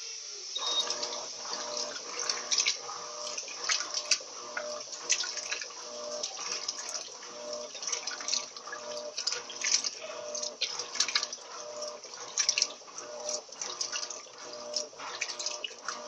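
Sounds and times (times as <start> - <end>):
washing machine motor hum: 0.0 - 16.0
water sloshing in washing machine: 0.6 - 16.0.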